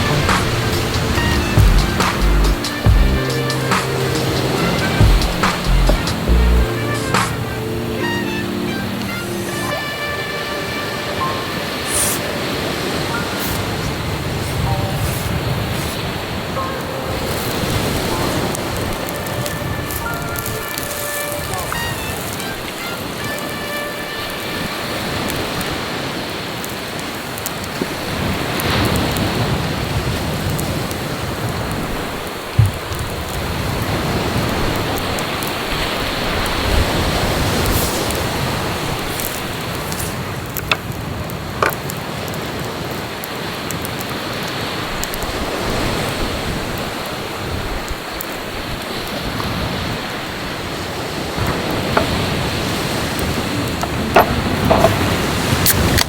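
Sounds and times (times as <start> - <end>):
sea waves washing ashore: 0.0 - 56.0.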